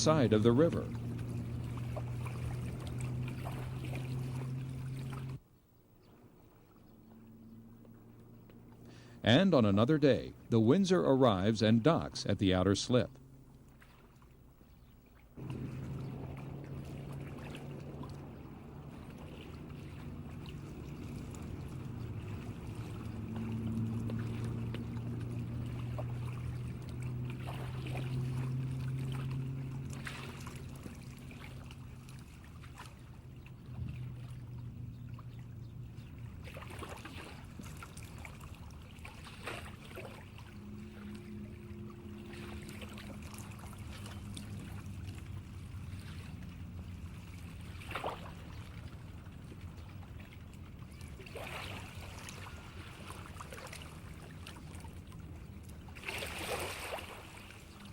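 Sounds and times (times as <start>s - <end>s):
ship engines droning: 0.0s - 56.5s.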